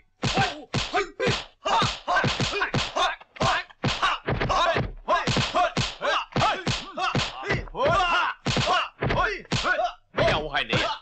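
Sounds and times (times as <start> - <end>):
fighters grunting and shouting: 0.2 - 11.0
punch and block impacts: 0.2 - 11.0.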